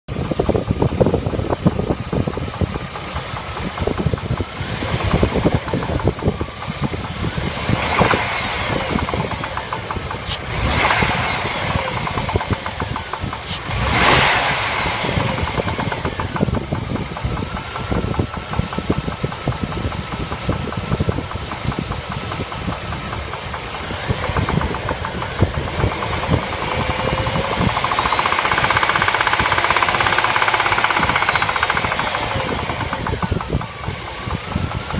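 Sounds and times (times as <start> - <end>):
engine running with rapid knocking: 0.1 - 34.9.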